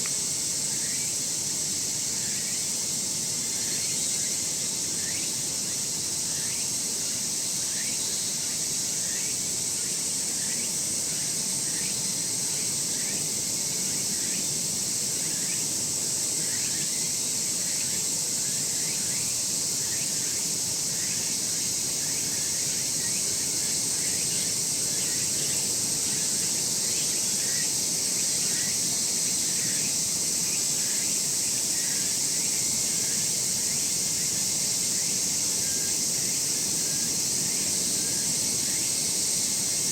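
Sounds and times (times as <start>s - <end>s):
insect chirping: 0.0s - 39.9s
insect chorus shrilling: 0.0s - 39.9s.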